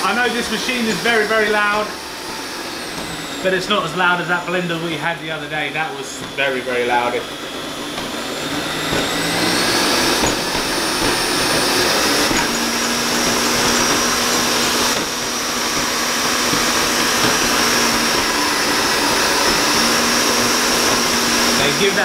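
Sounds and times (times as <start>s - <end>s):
stand mixer motor whining: 0.0s - 22.0s.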